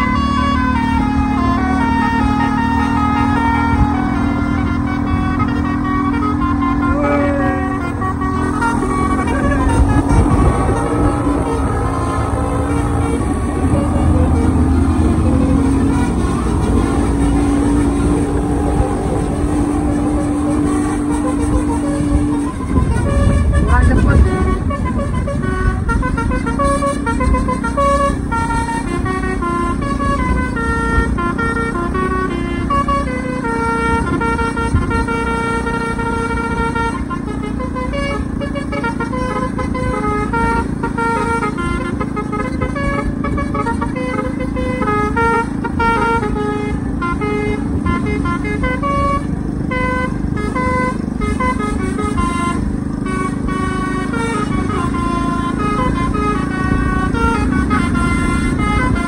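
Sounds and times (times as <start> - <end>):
bus air horns playing melody: 0.0 - 59.0
bus and road rumble: 0.0 - 59.0.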